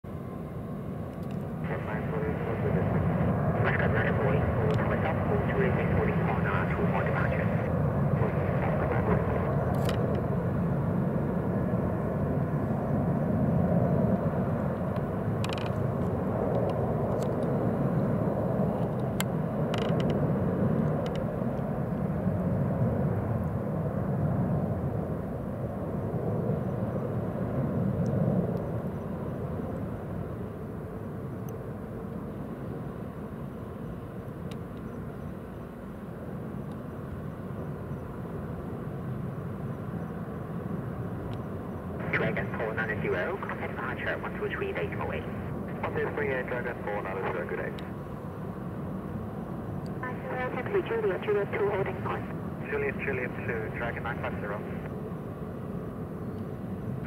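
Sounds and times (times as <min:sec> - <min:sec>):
jet engines roaring: 0:00.2 - 0:57.0.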